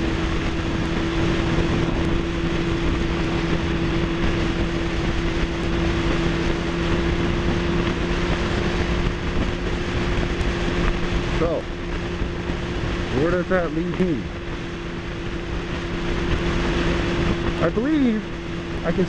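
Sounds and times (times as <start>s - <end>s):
motorcycle engine hum: 0.0s - 19.0s
wind and road noise: 0.0s - 19.0s.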